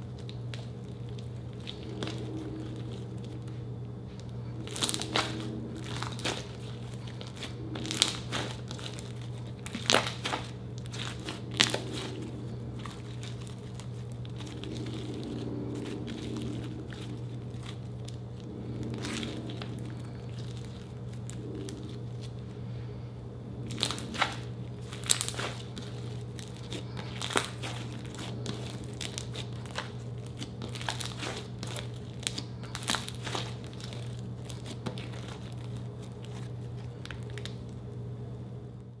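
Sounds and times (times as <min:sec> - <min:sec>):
slime popping and crackling: 0:00.0 - 0:22.4, 0:23.6 - 0:37.8
steady low hum: 0:00.0 - 0:39.0.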